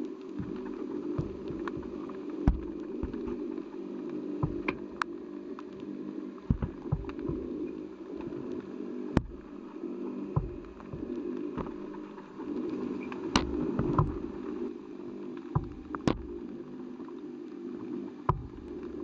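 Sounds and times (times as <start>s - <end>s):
low underwater hum: 0.0s - 19.0s
underwater clicks and knocks: 0.1s - 14.6s, 15.3s - 16.6s, 18.2s - 19.0s.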